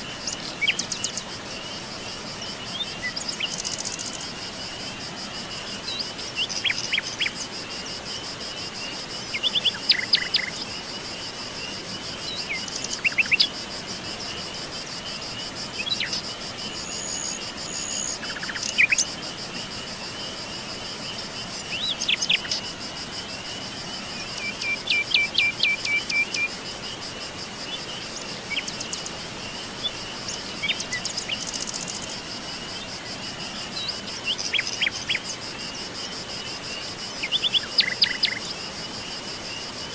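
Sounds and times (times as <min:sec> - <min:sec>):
high insect trill: 0:00.0 - 0:39.9
wild birds chirping: 0:00.0 - 0:39.9.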